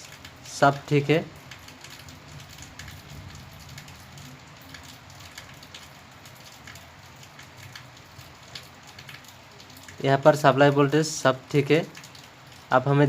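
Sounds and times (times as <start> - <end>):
light crackles: 0.0 - 12.8
faint steady hiss: 0.0 - 13.0.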